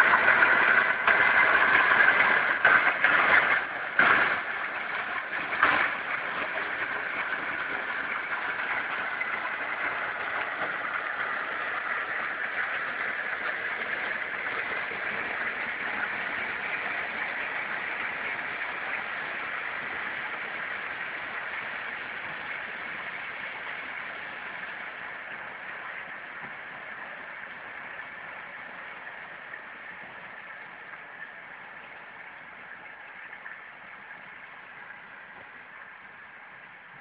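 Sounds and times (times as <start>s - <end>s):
train running: 0.0s - 37.0s.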